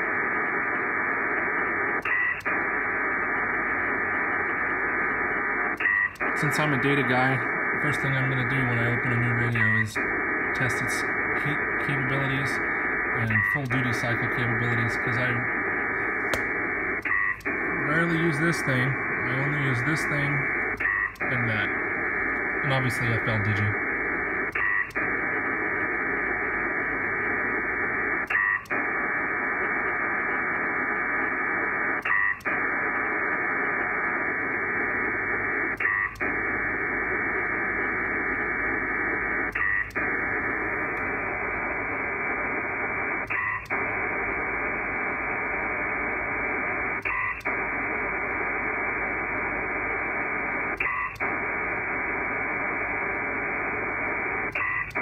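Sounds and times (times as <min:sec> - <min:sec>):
hiss-like radio data signal: 0:00.0 - 0:55.0.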